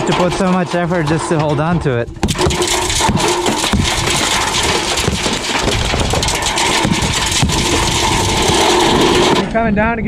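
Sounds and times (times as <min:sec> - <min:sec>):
power tool chipping brick: 0:00.0 - 0:09.5.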